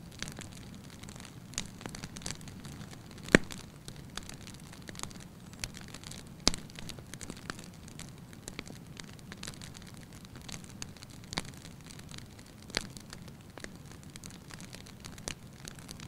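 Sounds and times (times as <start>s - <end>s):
sharp loud snaps of fire: 0.0s - 16.0s
wood fire crackling: 0.0s - 16.0s.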